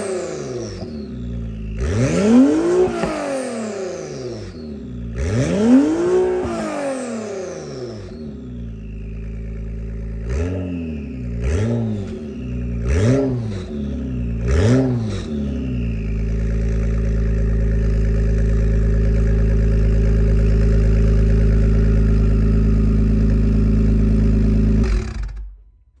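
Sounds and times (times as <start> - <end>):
car engine revving: 0.0 - 25.7.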